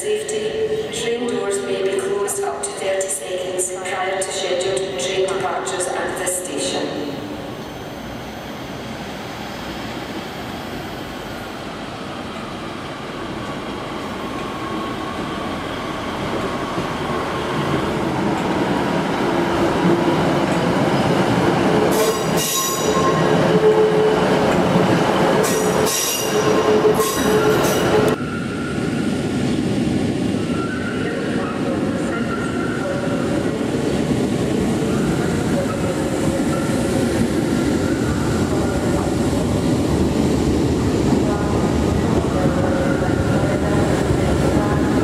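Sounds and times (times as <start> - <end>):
diesel train engine and wheels: 0.0 - 45.0.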